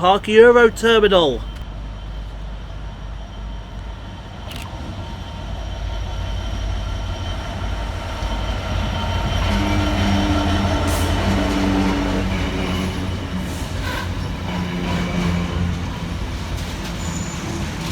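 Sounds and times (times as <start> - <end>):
diesel locomotive rumbling: 0.0 - 17.9.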